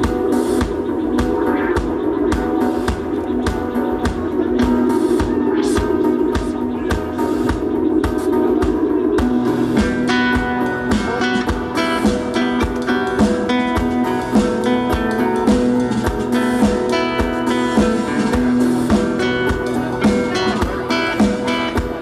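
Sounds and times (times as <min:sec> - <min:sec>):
drum kit beat: 0:00.0 - 0:22.0
guitars: 0:00.0 - 0:22.0.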